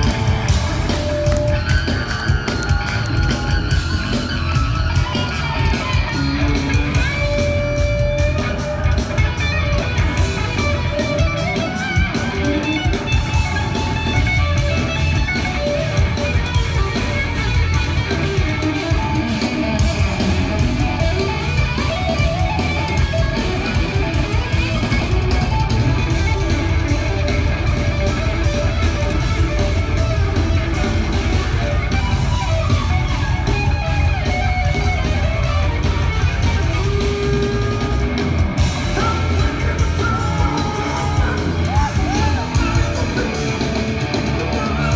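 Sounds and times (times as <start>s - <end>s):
loud hard rock band: 0.0s - 44.9s.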